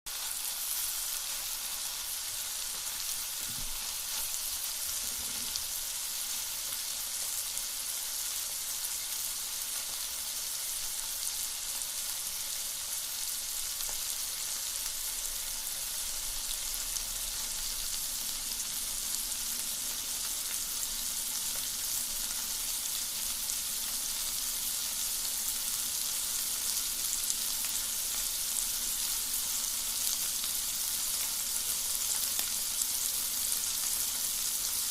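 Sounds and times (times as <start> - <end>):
onion sizzling with crackles: 0.1 - 34.9.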